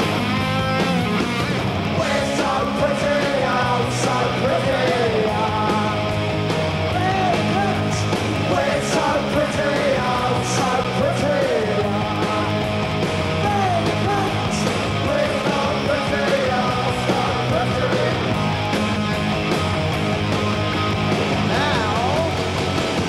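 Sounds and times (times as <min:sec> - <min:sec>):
bass guitar: 0:00.0 - 0:23.0
distorted electric guitars: 0:00.0 - 0:23.0
drums with cymbal crashes: 0:00.0 - 0:23.0.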